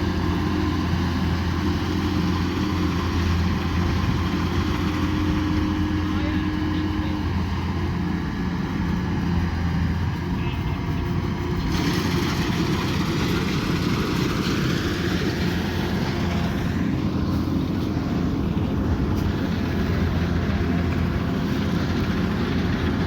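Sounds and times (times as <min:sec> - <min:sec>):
combine harvester engine running: 0:00.0 - 0:23.0
threshing machinery rushing noise: 0:00.0 - 0:23.0.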